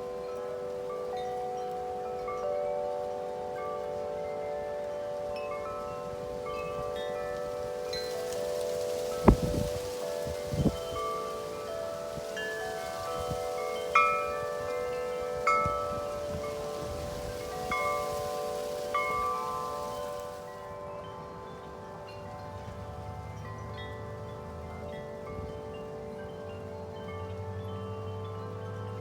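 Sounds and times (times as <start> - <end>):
wind chimes ringing: 0.0 - 29.0
gusty wind: 5.2 - 29.0.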